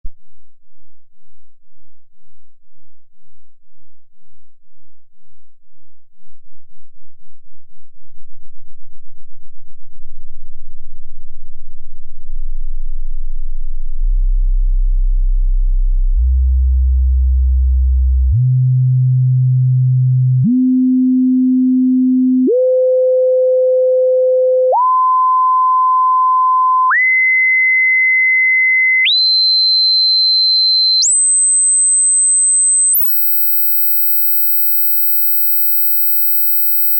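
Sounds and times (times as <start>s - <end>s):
sine test tones: 6.2s - 36.9s.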